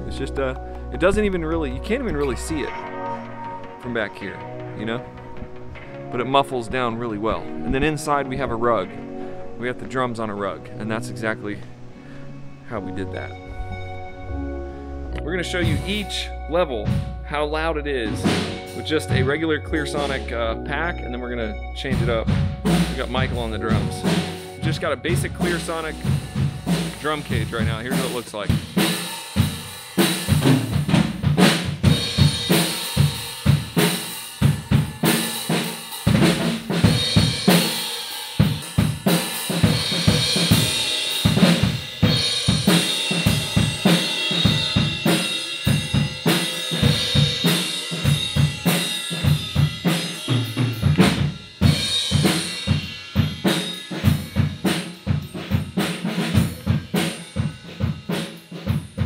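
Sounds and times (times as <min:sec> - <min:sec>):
cymbals: 0:00.0 - 0:09.8, 0:12.2 - 0:20.4, 0:21.8 - 0:59.0
drum kit playing: 0:00.0 - 0:10.5, 0:12.8 - 0:21.2, 0:21.8 - 0:59.0.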